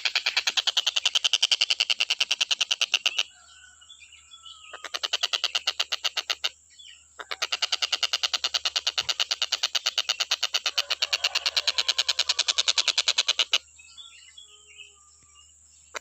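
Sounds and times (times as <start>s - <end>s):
faint chirps of other birds: 0.0s - 16.0s.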